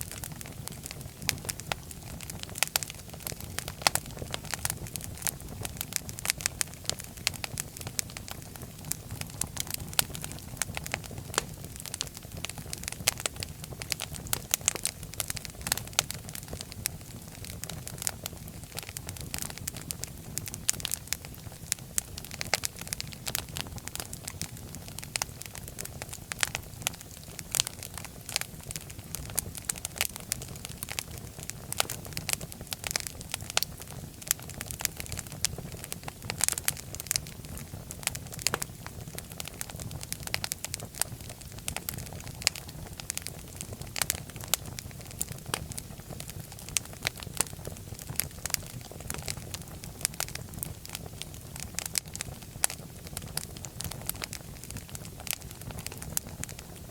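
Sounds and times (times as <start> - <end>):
fire crackling in fireplace: 0.0 - 56.9.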